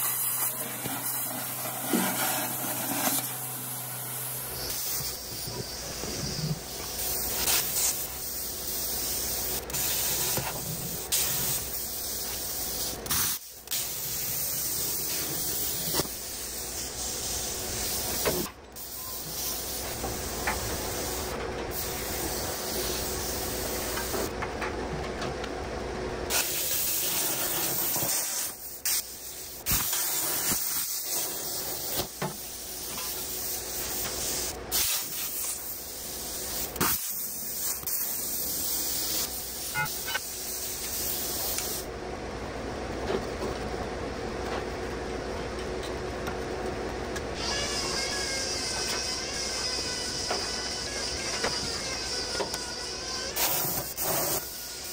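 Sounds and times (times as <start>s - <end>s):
plasma cutter hissing: 0.0s - 24.3s, 26.3s - 41.9s, 47.5s - 54.9s.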